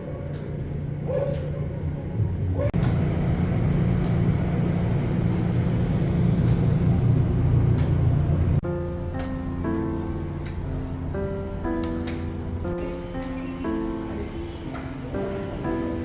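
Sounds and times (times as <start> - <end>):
vehicle rumbling: 0.0 - 16.0.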